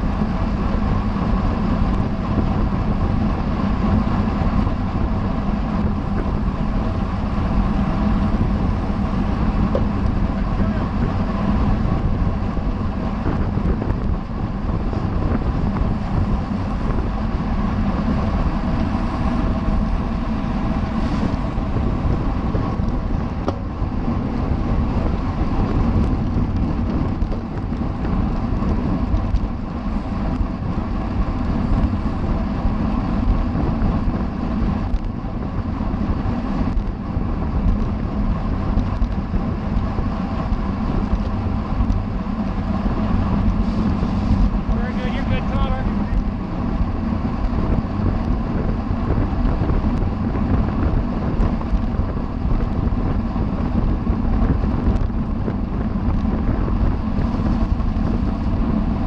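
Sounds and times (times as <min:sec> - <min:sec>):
bicycle rolling noise: 0:00.0 - 0:59.0
wind buffeting microphone: 0:00.0 - 0:59.0.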